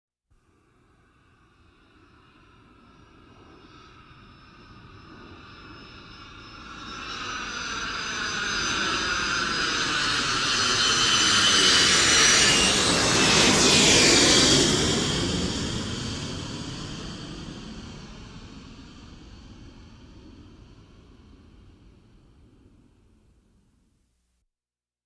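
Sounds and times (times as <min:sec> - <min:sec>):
jet engines passing overhead: 0:01.9 - 0:22.9.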